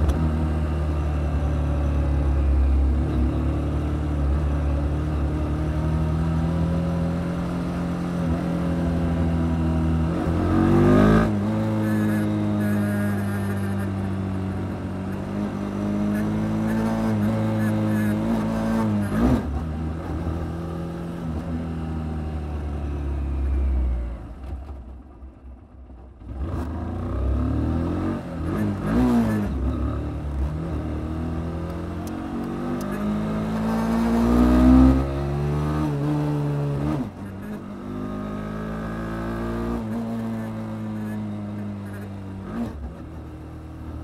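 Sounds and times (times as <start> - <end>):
motorcycle engine accelerating: 0.0 - 25.1, 25.8 - 44.0.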